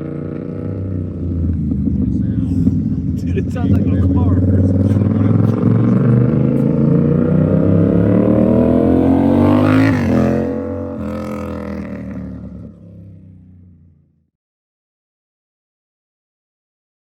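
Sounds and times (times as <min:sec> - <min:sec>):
motorcycle engine accelerating: 0:00.0 - 0:14.2.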